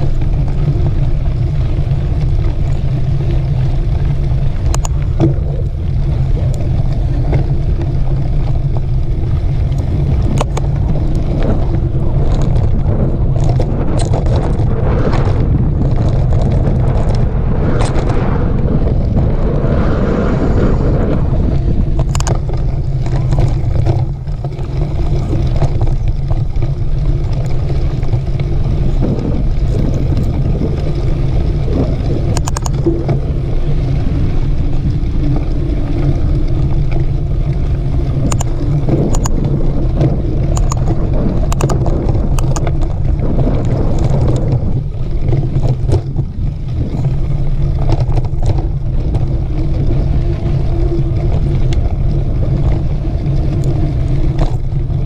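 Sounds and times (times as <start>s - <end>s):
bike clicks and rattles: 0.0s - 19.8s, 20.6s - 55.0s
wind rumbling on microphone: 0.0s - 55.0s.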